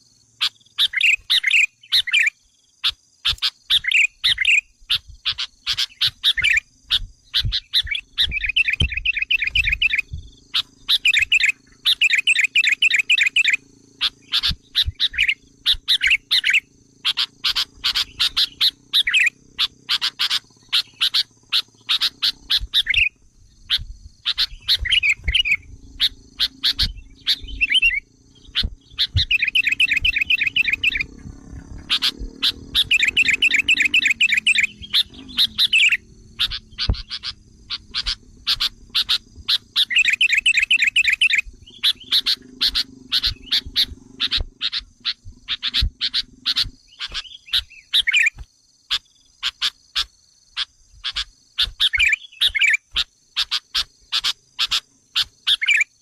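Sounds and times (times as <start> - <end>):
bird trilled chatter: 0.0 - 56.0
bulbuls chirping: 0.0 - 56.0.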